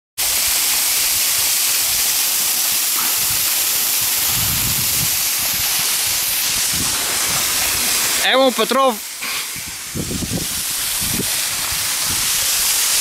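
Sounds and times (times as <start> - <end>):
waterfall pouring down rock: 0.2 - 13.0.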